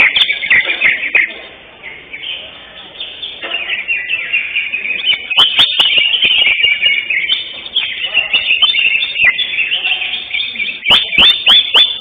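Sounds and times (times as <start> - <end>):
bird singing chirps and trills: 0.0 - 12.0.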